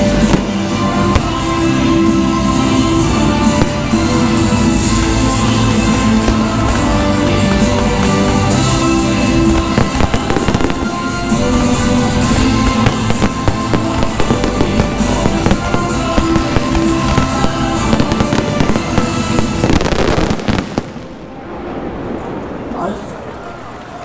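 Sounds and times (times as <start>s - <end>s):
music: 0.0s - 21.8s
fireworks bursting and crackling: 0.0s - 22.7s.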